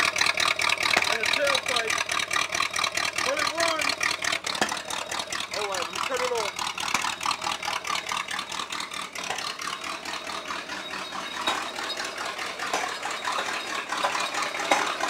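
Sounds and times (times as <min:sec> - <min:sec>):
engine idling roughly: 0:00.0 - 0:15.0
engine rattle: 0:00.0 - 0:15.0.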